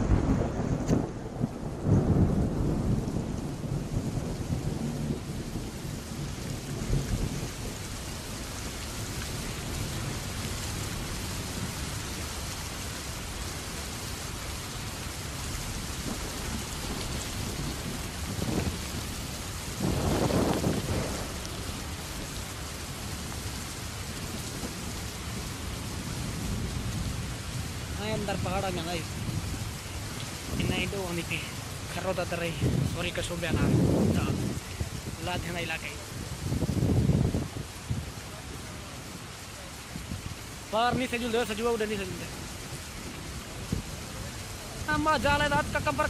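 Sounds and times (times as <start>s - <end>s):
steady rain on rocky ground: 0.0s - 46.0s.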